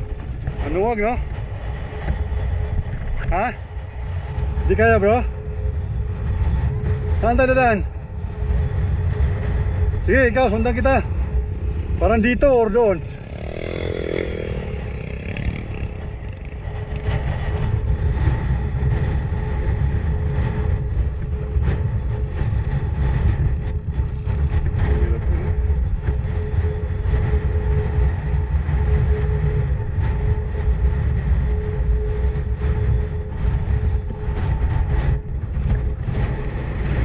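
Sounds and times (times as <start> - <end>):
heavy low rumble: 0.0 - 37.0
motorcycle engine hum: 0.0 - 37.0.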